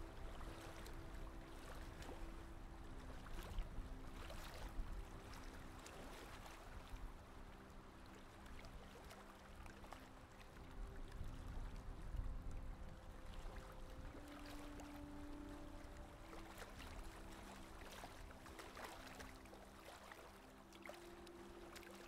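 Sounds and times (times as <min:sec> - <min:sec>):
water rushing along a boat hull: 0:00.0 - 0:22.0.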